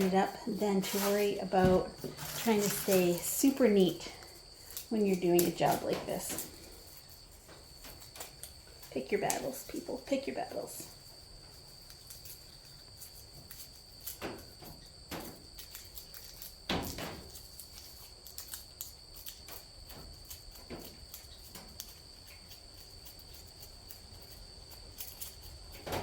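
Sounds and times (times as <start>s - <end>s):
dry garlic stems crackling: 0.0s - 14.6s, 15.6s - 25.8s
crickets trilling: 0.0s - 26.0s.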